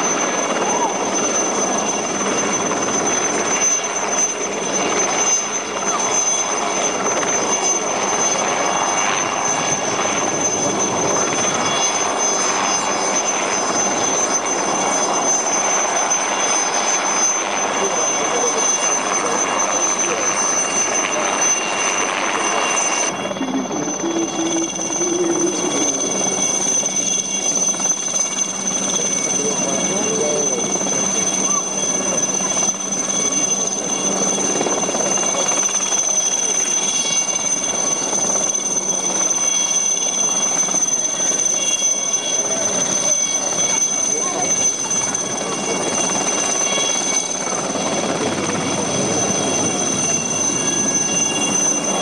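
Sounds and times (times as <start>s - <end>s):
helicopter hovering: 0.0s - 52.0s.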